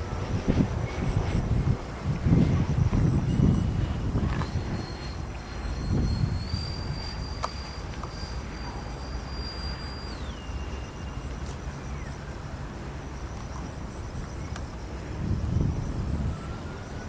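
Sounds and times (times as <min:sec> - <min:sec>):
model jet fans whining: 0:00.0 - 0:17.0
wind rumble on microphone: 0:00.0 - 0:17.0.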